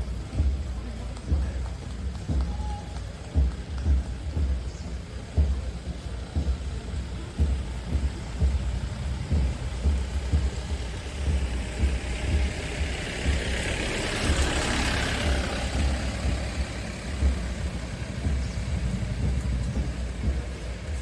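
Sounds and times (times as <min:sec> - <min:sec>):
motor vehicle passing: 0:00.0 - 0:21.0.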